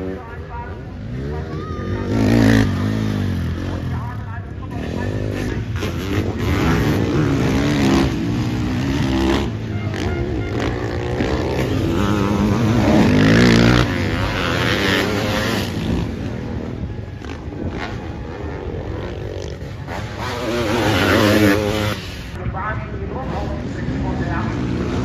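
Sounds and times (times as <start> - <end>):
motocross engines revving: 0.0 - 25.0.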